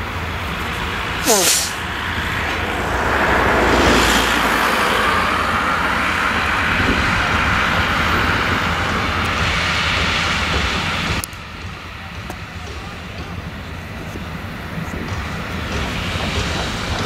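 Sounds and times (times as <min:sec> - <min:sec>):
combine harvester running: 0:00.0 - 0:17.0
mechanical drone with rushing hiss: 0:00.0 - 0:17.0.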